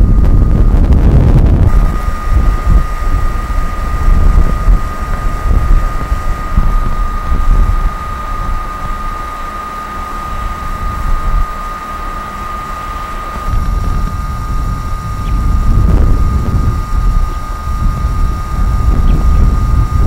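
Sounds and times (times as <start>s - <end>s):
high-pitched whine: 0.0s - 20.0s
wind buffeting microphone: 0.0s - 20.0s.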